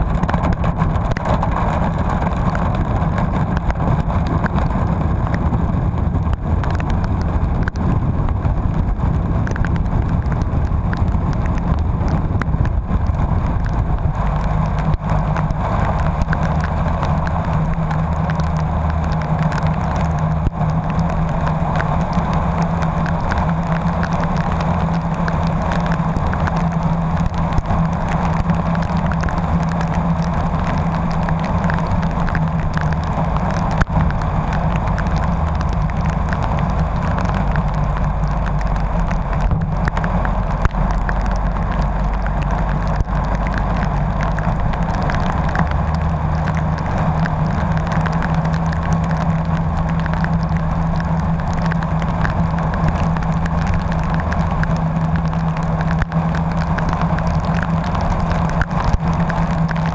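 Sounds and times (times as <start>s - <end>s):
road noise: 0.0s - 59.9s
vehicle engine hum: 0.0s - 59.9s.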